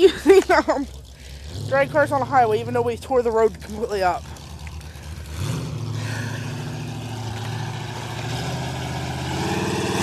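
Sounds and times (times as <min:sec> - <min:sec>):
car engine running low: 0:00.0 - 0:10.0.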